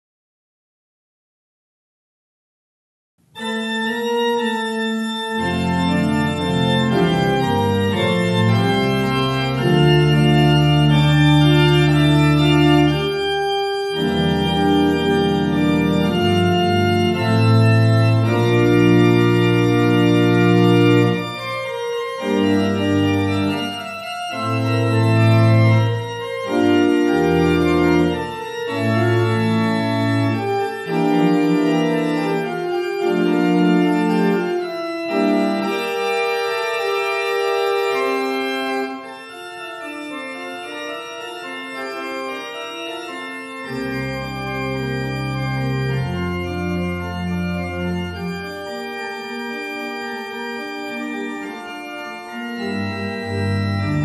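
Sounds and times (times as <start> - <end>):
organ playing slow chords: 3.4 - 54.0.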